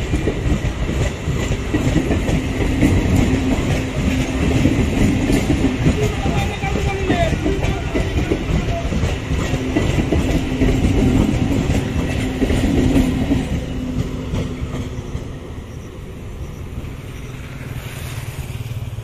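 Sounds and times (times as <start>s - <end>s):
train motor hum: 0.0s - 19.0s
train wheels clattering on rails: 0.0s - 19.0s.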